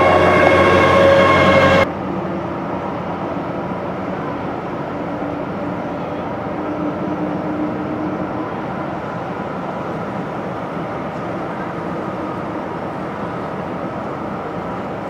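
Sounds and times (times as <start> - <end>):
jet engines idling: 0.0 - 15.0.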